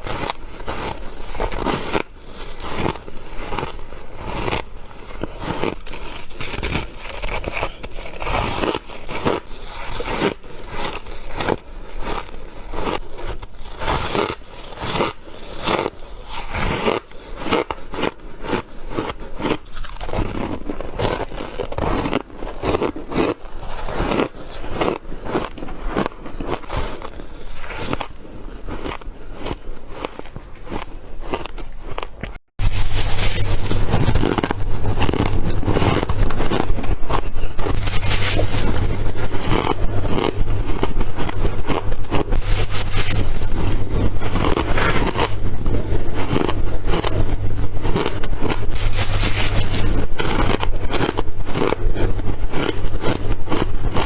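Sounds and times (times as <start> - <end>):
crunching and squeaking frost bites: 0.0 - 54.0.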